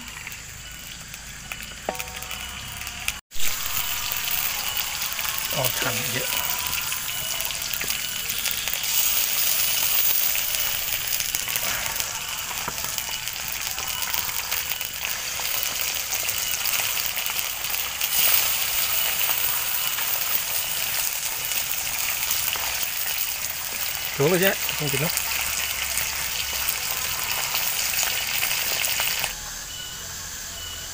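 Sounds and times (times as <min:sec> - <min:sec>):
fish sizzling in hot oil: 0:00.0 - 0:29.4.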